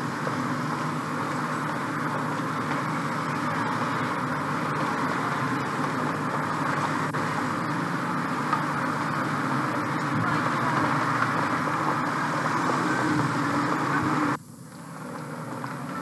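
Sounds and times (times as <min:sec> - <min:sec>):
car traffic passing: 0:00.0 - 0:16.0.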